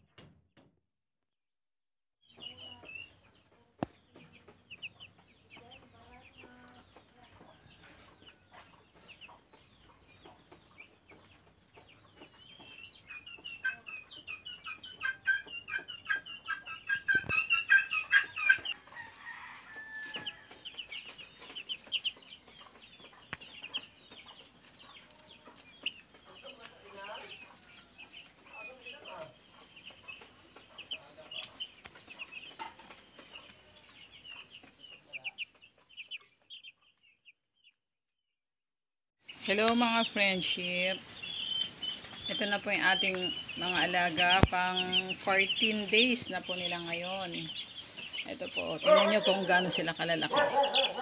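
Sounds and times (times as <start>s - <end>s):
chicks peeping: 2.2s - 37.8s, 39.3s - 51.0s.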